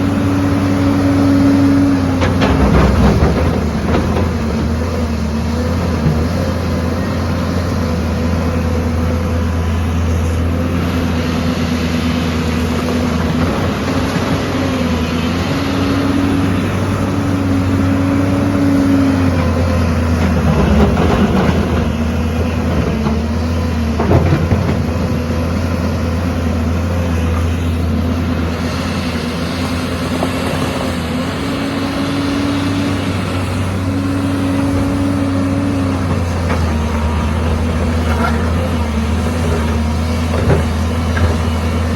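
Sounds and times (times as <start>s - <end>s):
diesel engine under varying load: 0.0s - 41.9s.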